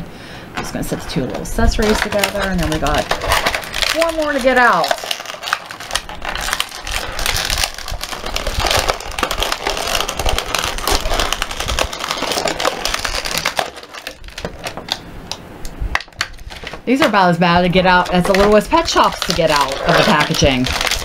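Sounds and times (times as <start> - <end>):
plastic packaging crackling: 1.2 - 21.0.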